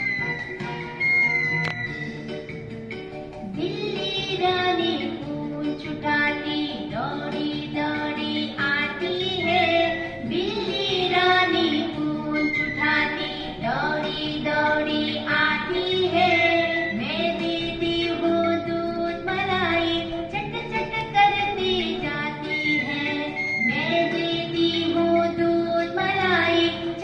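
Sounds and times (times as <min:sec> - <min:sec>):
instrumental backing music: 0:00.0 - 0:27.0
high singing voice: 0:03.5 - 0:27.0.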